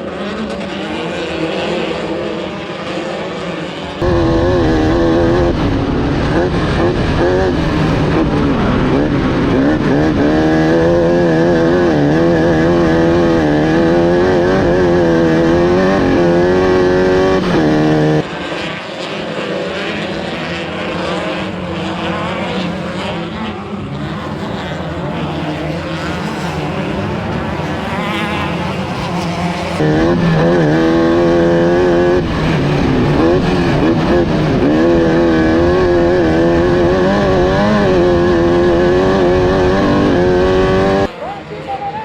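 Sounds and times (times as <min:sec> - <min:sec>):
race car engine revving: 0:00.0 - 0:41.6
rough engine and tyre noise: 0:00.0 - 0:42.0.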